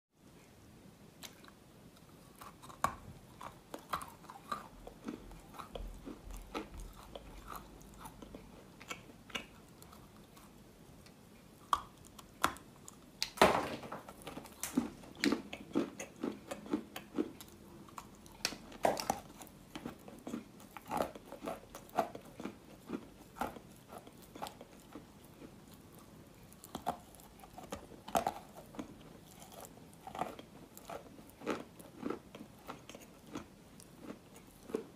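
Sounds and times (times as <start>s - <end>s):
chewing crunches: 1.2s - 13.1s, 14.1s - 34.9s.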